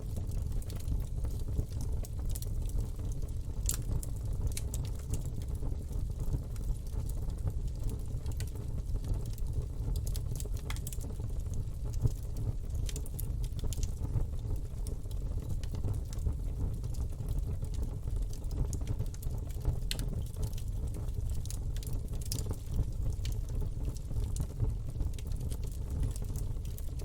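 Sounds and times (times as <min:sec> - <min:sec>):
burning wood crackling and popping: 0:00.0 - 0:27.0
low rumble of flames: 0:00.0 - 0:27.0.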